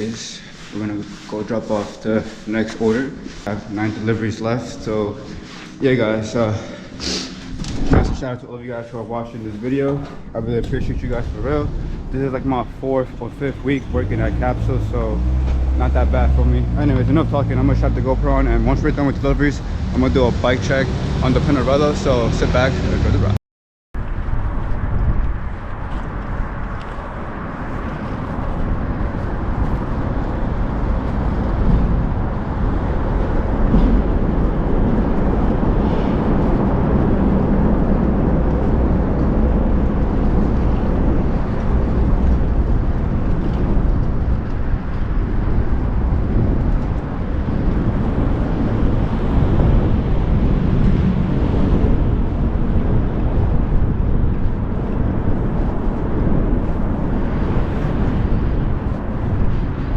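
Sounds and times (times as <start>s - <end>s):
wind buffeting microphone: 0.0s - 21.1s, 24.0s - 59.9s
road and traffic noise: 0.0s - 23.4s, 24.0s - 59.9s.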